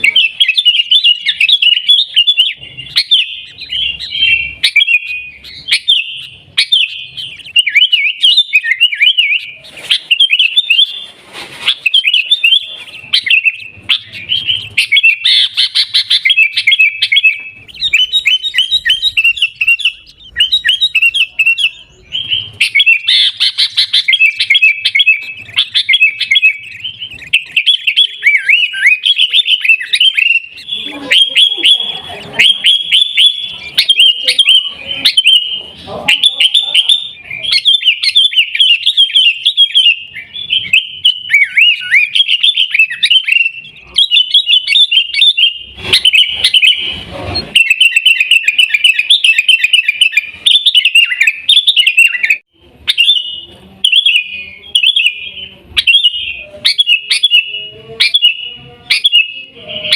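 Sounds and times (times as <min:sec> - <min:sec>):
bulbul chattering and singing: 0:00.0 - 0:59.9.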